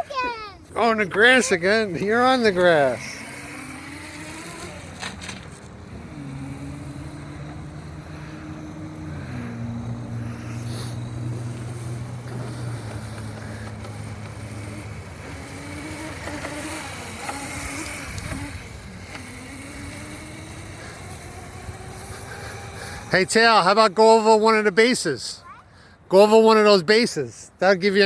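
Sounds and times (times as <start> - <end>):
electric dirt bike motor whining: 0.0 - 25.0.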